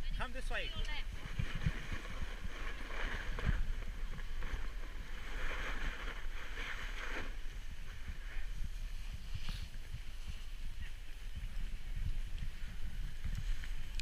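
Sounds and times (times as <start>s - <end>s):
wind rumbling on microphone: 0.0s - 14.0s
snowboard scraping over snow: 1.1s - 13.9s.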